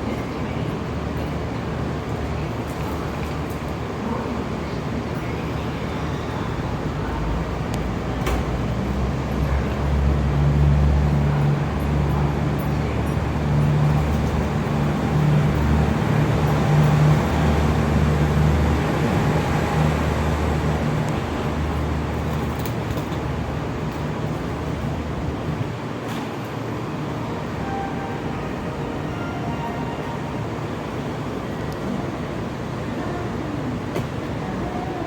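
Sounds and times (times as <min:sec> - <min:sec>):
electric train humming: 0:04.8 - 0:35.0.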